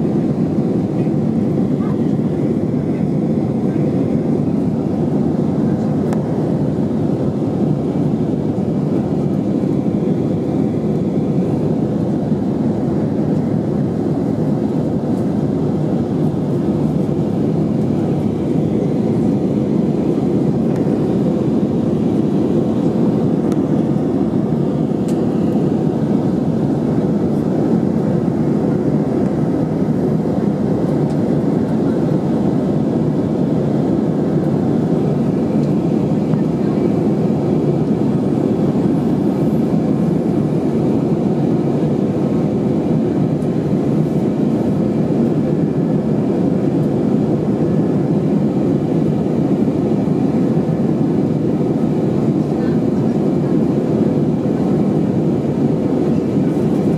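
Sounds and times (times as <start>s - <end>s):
airplane cabin engine rush: 0.0s - 56.9s.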